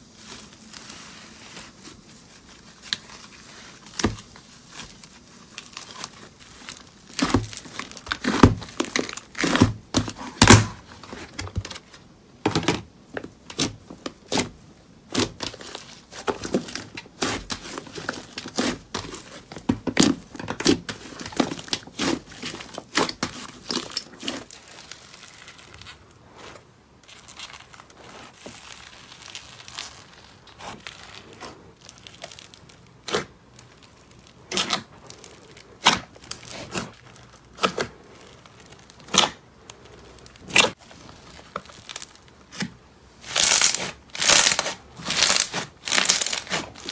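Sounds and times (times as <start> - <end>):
slime squishing with sticky pops: 0.1 - 11.3, 13.2 - 46.9.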